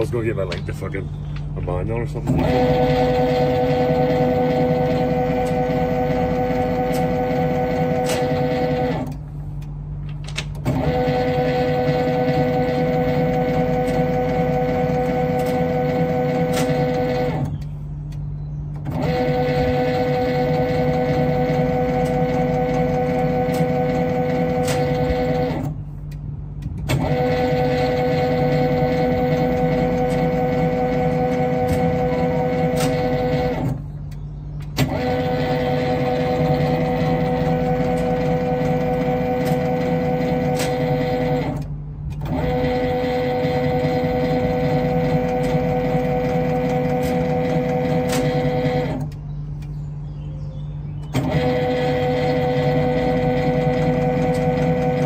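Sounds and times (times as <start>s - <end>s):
motor humming: 0.0s - 55.0s.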